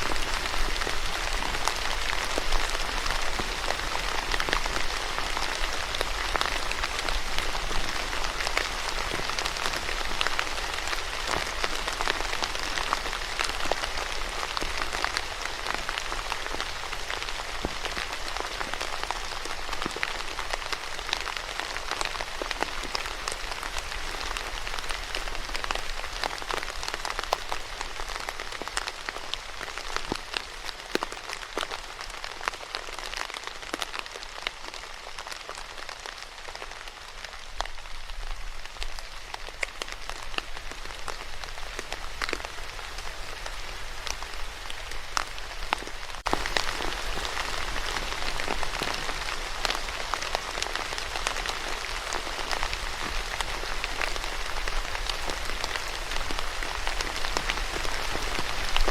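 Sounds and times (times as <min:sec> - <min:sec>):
rain falling on a surface: 0:00.0 - 0:58.9.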